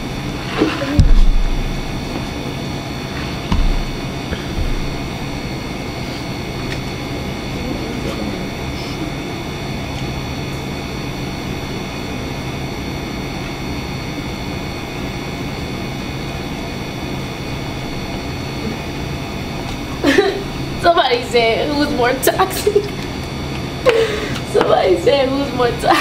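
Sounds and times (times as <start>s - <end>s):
low hum: 0.0s - 24.2s.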